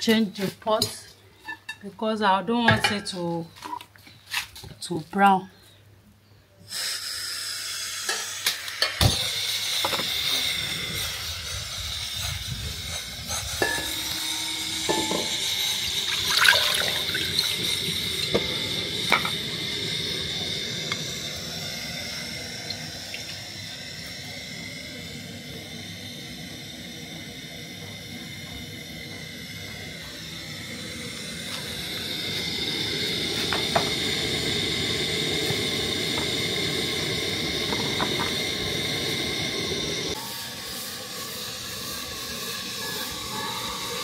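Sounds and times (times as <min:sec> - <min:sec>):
hot oil hissing: 0:06.7 - 0:44.0.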